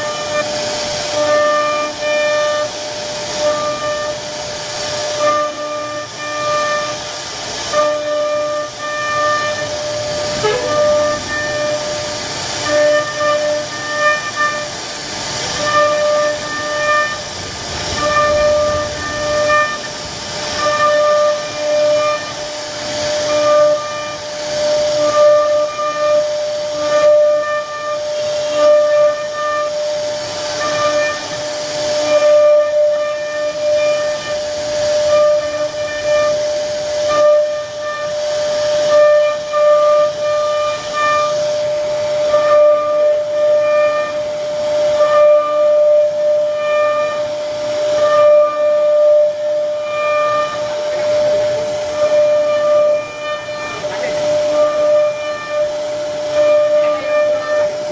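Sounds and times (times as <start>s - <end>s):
hiss of wood cutting: 0.0s - 57.9s
router spindle whining: 0.0s - 57.9s.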